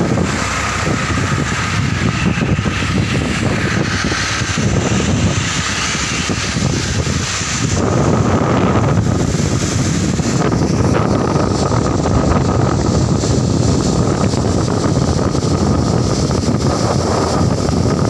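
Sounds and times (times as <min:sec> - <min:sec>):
tractor diesel engine running: 0:00.0 - 0:18.0
water gushing and splashing: 0:00.0 - 0:18.0.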